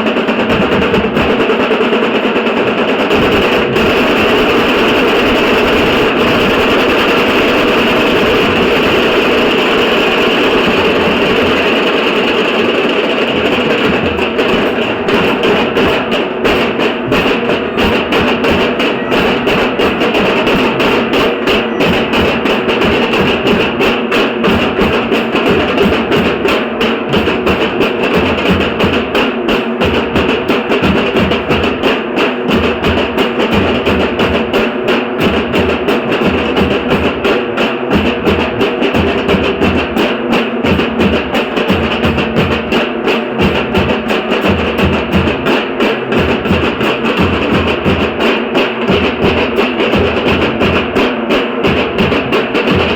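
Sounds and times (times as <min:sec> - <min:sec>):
drum ensemble beating fast rhythm: 0:00.0 - 0:52.9.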